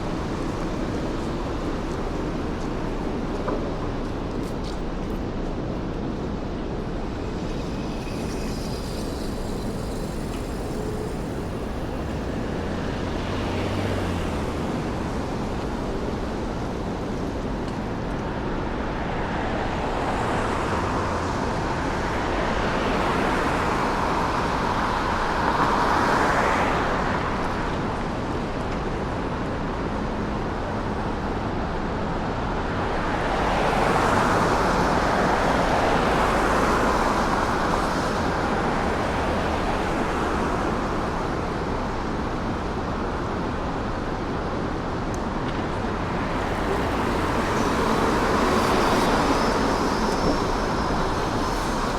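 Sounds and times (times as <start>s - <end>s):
cars passing: 0.0s - 51.9s
road traffic noise: 0.0s - 51.9s.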